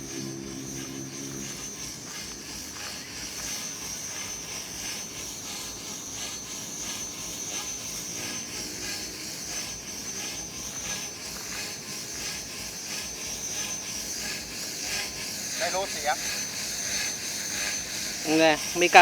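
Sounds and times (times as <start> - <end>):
model aircraft motor droning: 0.0 - 19.0.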